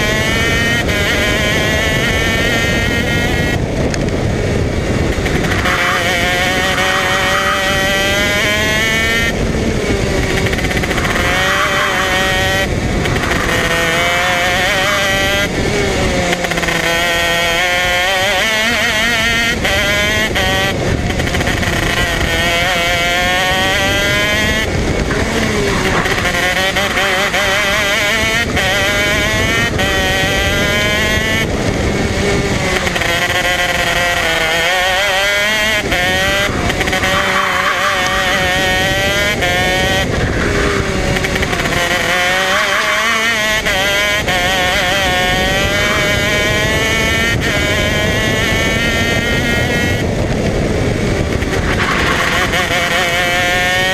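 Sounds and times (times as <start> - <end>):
kart engine accelerating: 0.0 - 53.9.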